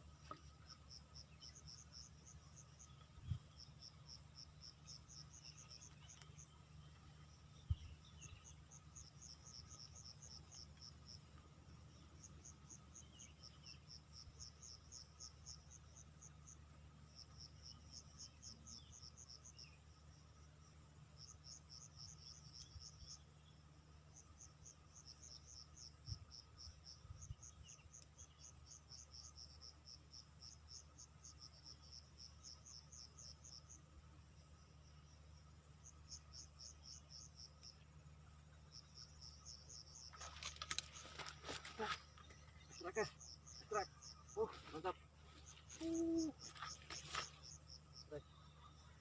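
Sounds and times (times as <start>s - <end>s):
faint low hum: 0.0s - 49.0s
insects chirping: 0.0s - 49.0s.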